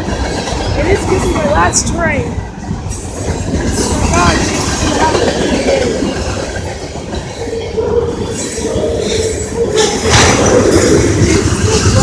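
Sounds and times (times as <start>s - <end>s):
freight train rumbling: 0.0s - 12.0s
wheels clicking over rail joints: 0.0s - 12.0s.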